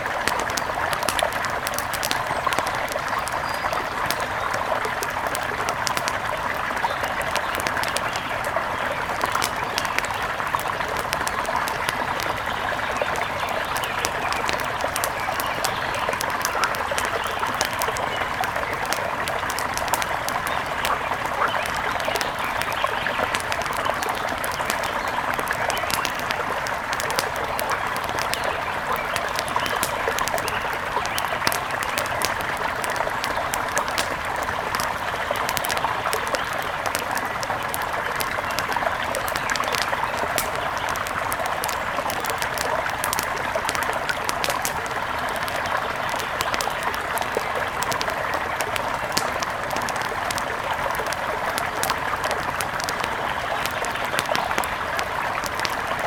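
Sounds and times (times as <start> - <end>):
water clicks and splashes: 0.0 - 56.0.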